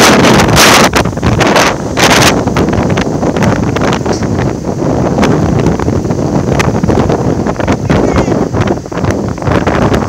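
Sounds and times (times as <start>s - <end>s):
storm wind buffeting microphone: 0.0s - 10.0s.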